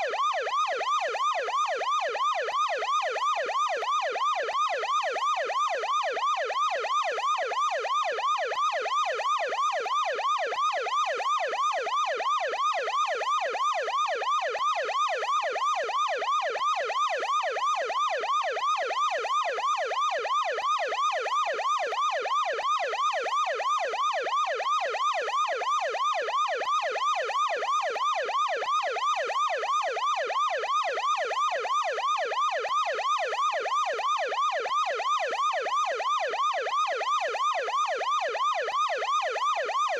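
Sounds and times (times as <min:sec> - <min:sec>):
ambulance siren yelping: 0:00.0 - 0:39.9.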